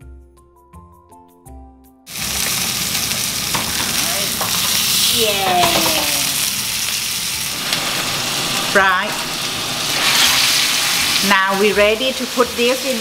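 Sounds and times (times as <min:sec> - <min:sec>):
steak sizzling in hot oil: 0:02.1 - 0:13.0.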